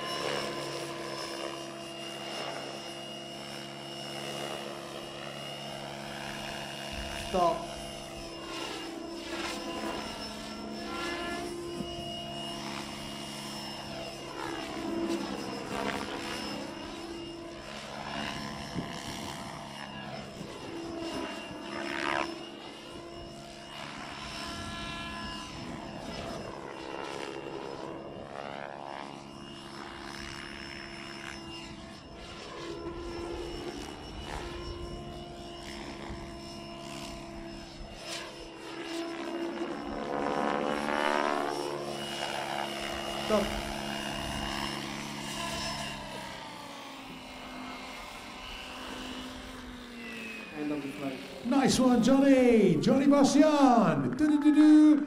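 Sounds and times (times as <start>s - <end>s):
model helicopter rotor and motor: 0.0s - 55.0s.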